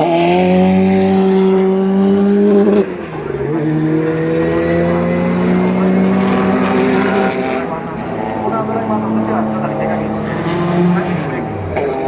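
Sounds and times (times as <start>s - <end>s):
racing car engine revving: 0.0s - 12.0s.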